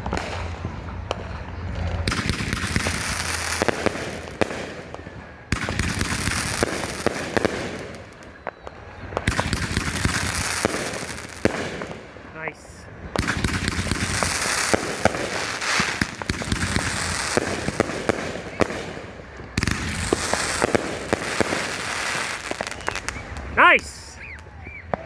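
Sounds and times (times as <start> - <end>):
fireworks crackle: 0.0 - 25.0
fireworks shots and bangs: 0.0 - 25.0.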